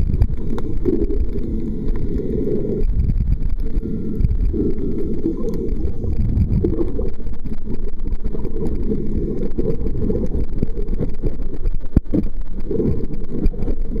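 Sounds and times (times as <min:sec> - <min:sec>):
muffled underwater rumble: 0:00.0 - 0:14.0.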